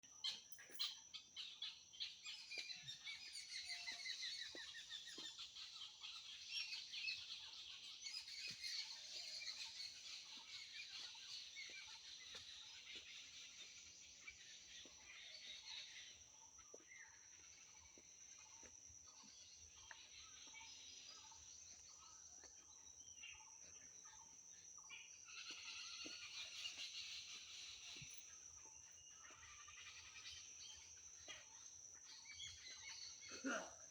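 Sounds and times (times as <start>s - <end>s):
small birds chirping and trilling: 0.0s - 33.9s.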